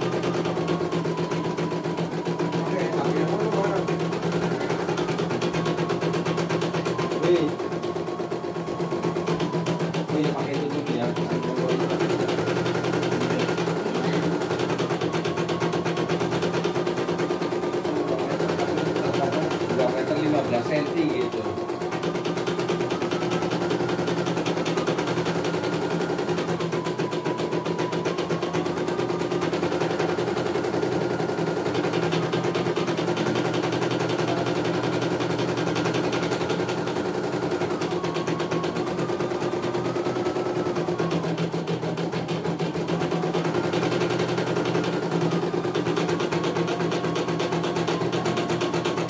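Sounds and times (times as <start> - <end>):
machine whine: 0.0 - 49.0.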